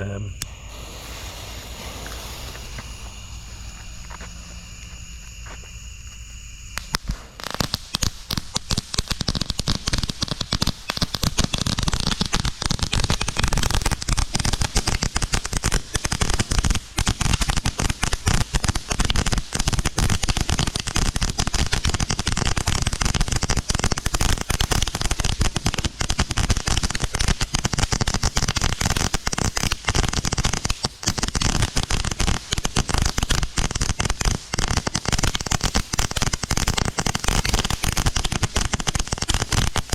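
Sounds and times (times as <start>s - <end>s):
fireworks crackling: 0.1s - 39.9s.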